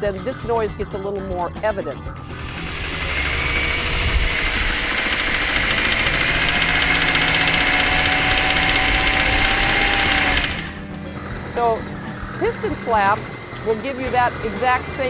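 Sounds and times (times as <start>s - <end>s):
engine running with knocking: 2.3s - 15.0s.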